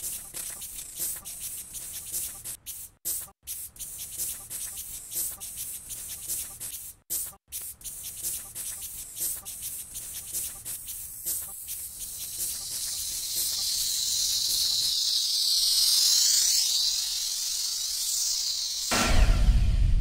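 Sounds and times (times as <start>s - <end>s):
high hissing noise: 0.0s - 19.7s.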